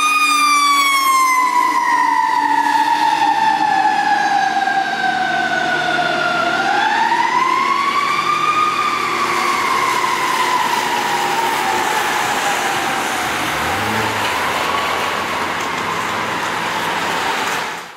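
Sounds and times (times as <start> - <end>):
fire engine mechanical siren: 0.0 - 17.9.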